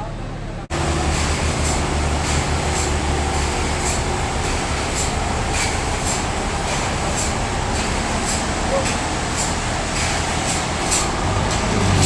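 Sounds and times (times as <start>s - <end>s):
sawmill saw cutting log: 0.7s - 12.0s.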